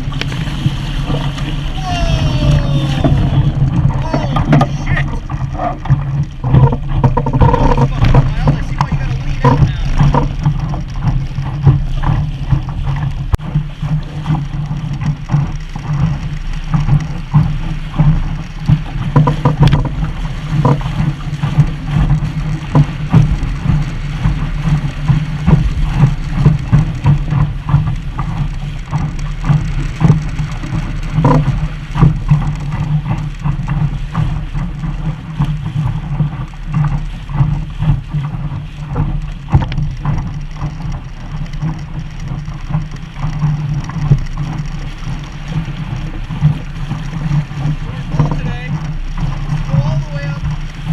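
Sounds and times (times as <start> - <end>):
steady low rumble: 0.0 - 50.9
water slapping: 0.0 - 50.9
water splashing against a hull: 0.0 - 50.9.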